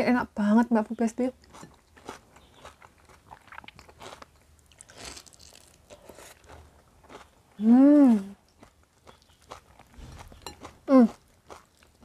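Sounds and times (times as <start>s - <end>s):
chewing crunchy raw vegetables: 1.3s - 12.0s.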